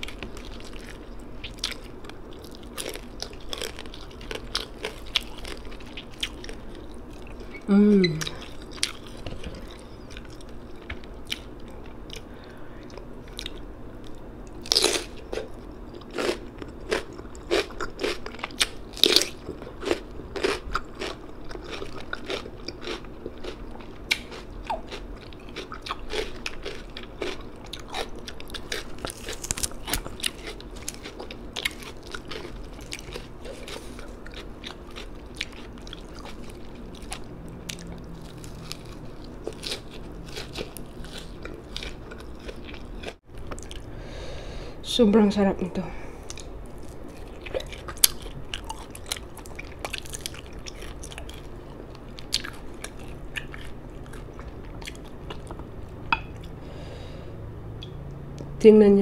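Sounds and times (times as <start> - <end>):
person chewing crunchy vegetables: 0.0 - 43.9, 46.1 - 57.2.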